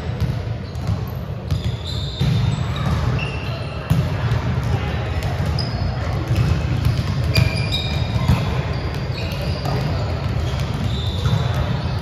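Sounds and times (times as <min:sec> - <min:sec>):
volleyballs hit and bouncing: 0:00.0 - 0:12.0
shoes squeaking on court: 0:00.6 - 0:04.0, 0:05.4 - 0:12.0.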